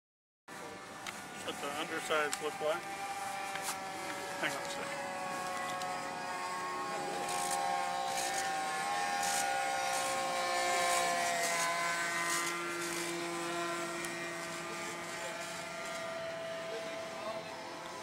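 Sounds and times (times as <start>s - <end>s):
model aircraft motors droning: 0.5s - 18.0s.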